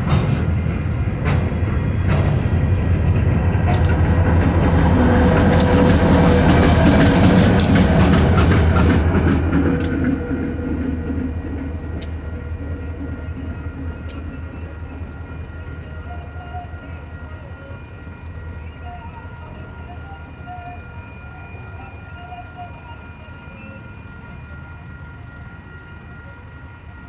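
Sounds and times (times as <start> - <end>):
crossing warning bell ringing: 0.0 - 27.0
train rumbling past: 0.0 - 27.0.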